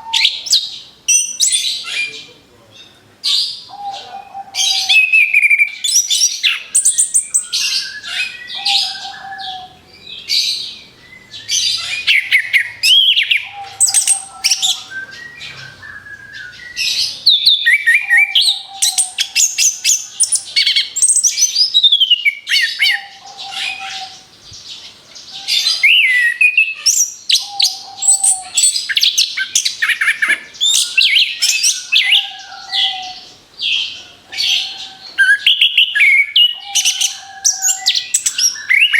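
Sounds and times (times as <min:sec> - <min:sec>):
thrush singing whistles and trills: 0:00.0 - 0:38.9.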